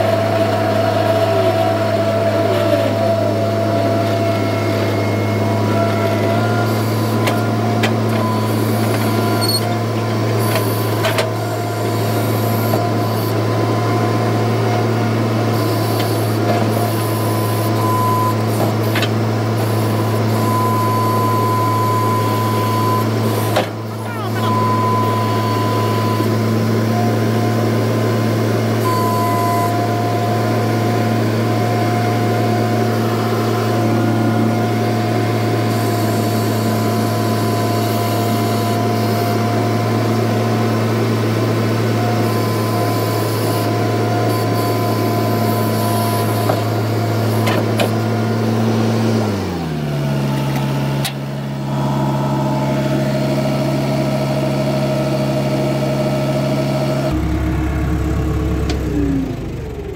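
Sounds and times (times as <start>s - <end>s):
diesel engine running: 0.0s - 59.9s
engine whine: 0.0s - 59.9s.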